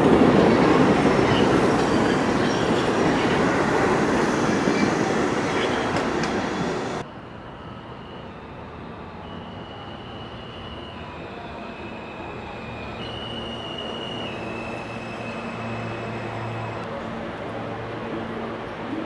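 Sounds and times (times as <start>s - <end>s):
subway train rumbling on track: 0.0s - 19.0s.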